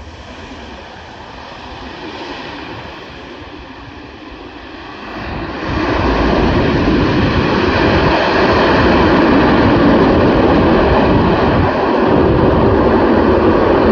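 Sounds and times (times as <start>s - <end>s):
cargo aircraft engines roaring: 0.0s - 13.9s
engine whining tones: 1.6s - 13.9s.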